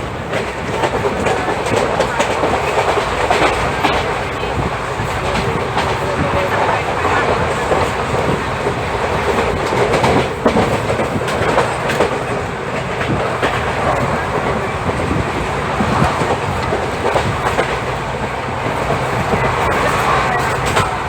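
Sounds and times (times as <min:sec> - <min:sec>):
train rushing rumble: 0:00.0 - 0:21.0
train wheels clattering over joints: 0:00.0 - 0:21.0.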